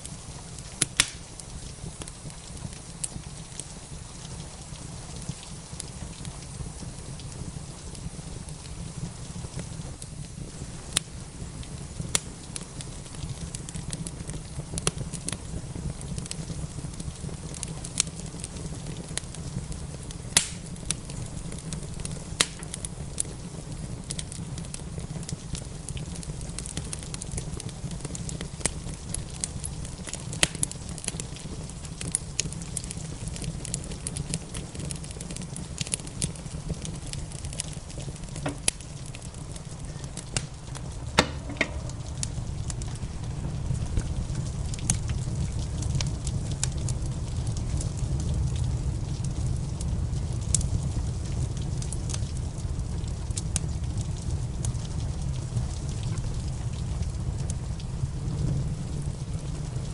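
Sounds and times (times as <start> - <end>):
steady rain: 0.0 - 59.9
wood fire crackling and popping: 0.0 - 59.9.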